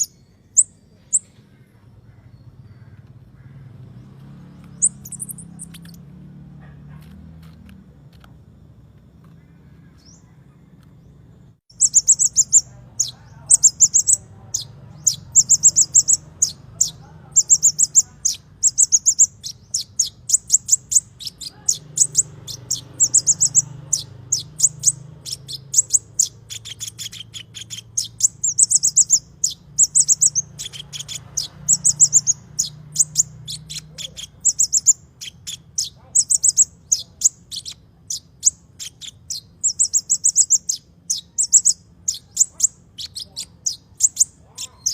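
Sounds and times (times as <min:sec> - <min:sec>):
songbird high rapid chirps: 0:00.0 - 0:07.6, 0:09.2 - 0:44.9
faint low hum: 0:00.0 - 0:44.9.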